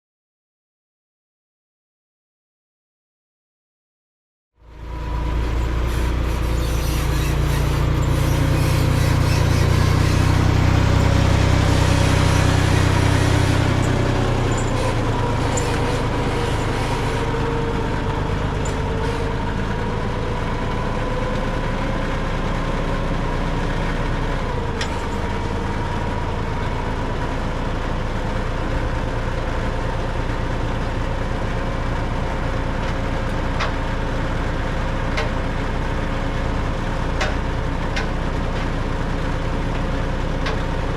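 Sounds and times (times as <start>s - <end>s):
machine engine running: 4.6s - 40.9s.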